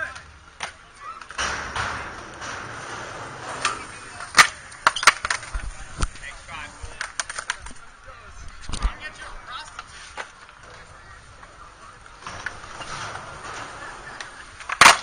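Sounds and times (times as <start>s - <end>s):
skateboard wheels rolling on concrete: 0.0s - 15.0s
skateboards clacking on ground: 0.0s - 15.0s.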